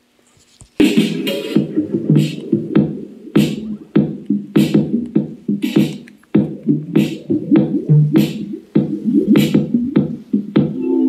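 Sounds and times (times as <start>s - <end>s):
electronic beat music on speaker: 0.8s - 11.0s.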